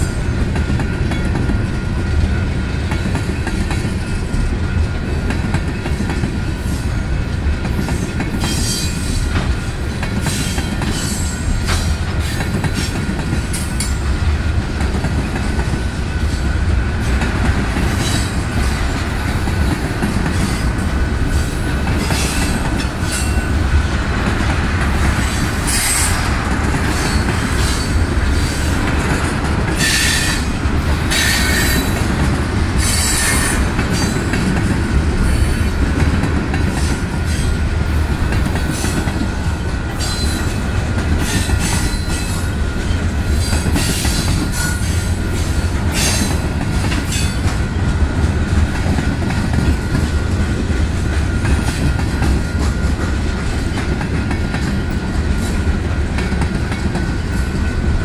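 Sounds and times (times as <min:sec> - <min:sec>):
train wheels rumbling over rails: 0:00.0 - 0:58.0.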